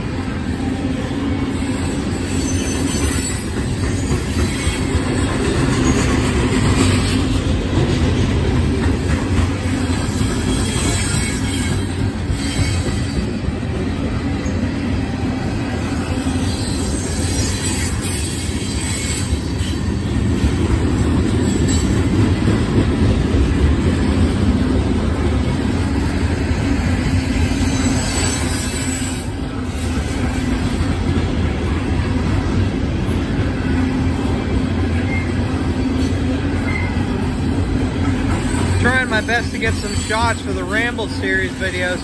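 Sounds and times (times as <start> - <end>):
train wheels rolling on rails: 0.0 - 42.0.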